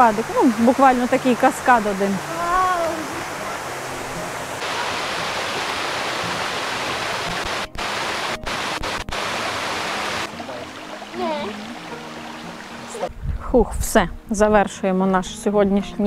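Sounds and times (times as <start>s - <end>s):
waterfall splashing: 0.0s - 13.1s.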